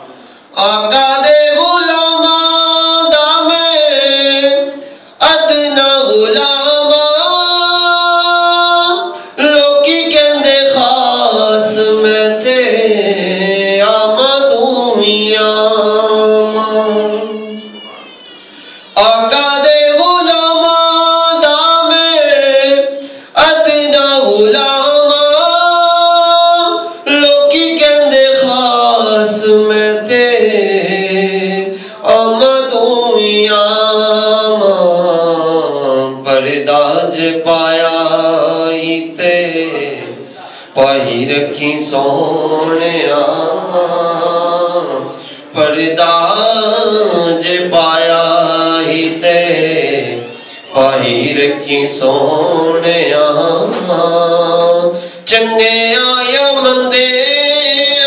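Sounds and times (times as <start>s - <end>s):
man singing unaccompanied: 0.4s - 17.9s, 18.9s - 58.0s.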